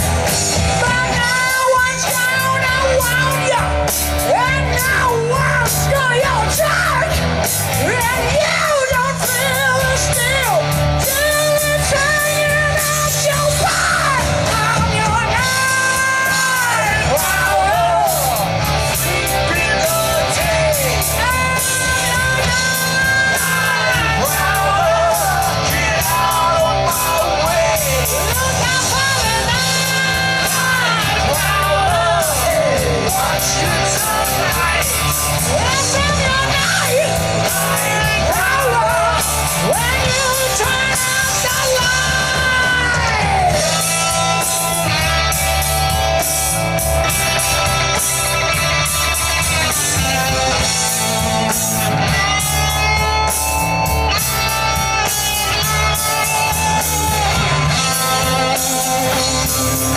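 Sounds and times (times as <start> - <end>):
live blues-rock band: 0.0 - 59.9.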